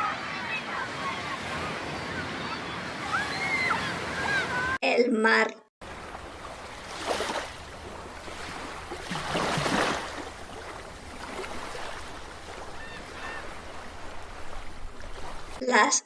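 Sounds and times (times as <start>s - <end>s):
waves washing: 0.0s - 4.8s, 5.8s - 15.8s.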